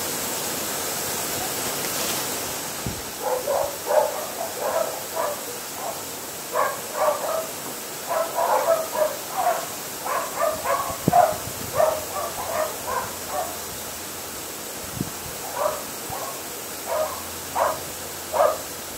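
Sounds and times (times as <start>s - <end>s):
faint steady hiss: 0.0s - 18.9s.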